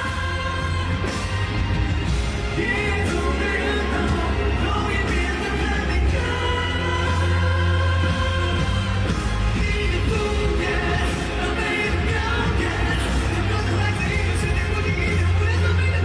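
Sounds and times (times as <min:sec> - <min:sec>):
band with heavy bass: 0:00.0 - 0:16.0
person singing: 0:00.0 - 0:16.0.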